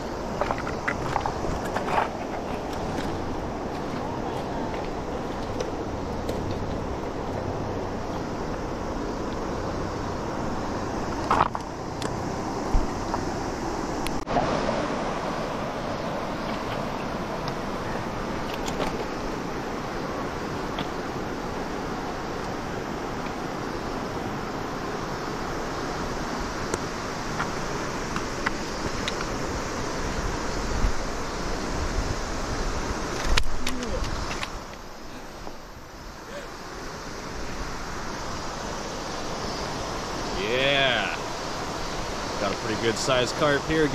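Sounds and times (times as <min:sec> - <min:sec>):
river flowing over stones: 0:00.0 - 0:43.9.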